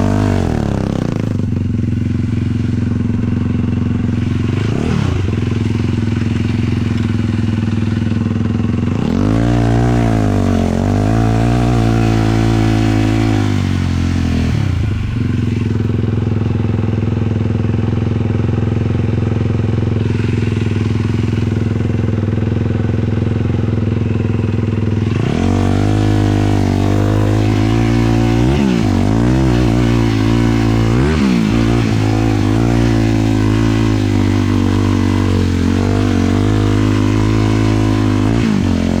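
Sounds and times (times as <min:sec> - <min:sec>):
quad engine revving: 0:00.0 - 0:39.0.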